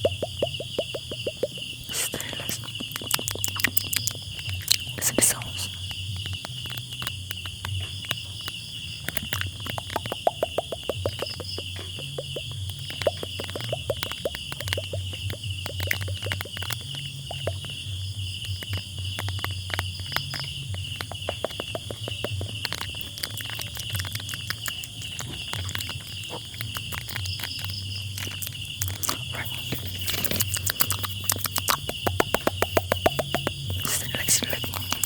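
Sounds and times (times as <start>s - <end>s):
crickets chirping: 0.0s - 35.0s
small clicks and taps: 0.0s - 35.0s.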